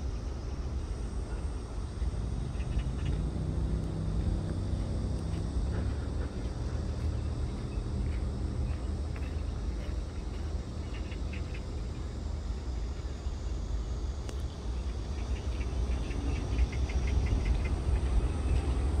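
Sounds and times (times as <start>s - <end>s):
insects chirping in rapid pulses: 0.0s - 19.0s
steady low rumble: 0.0s - 19.0s.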